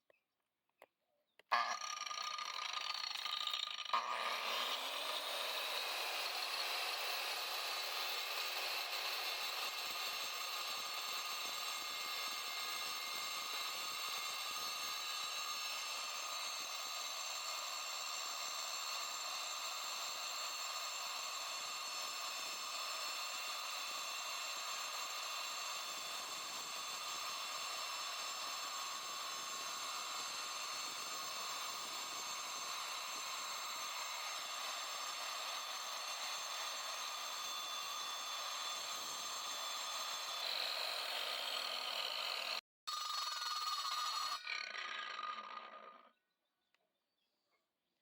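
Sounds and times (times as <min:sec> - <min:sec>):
angle grinder cutting steel: 0:01.4 - 0:46.2.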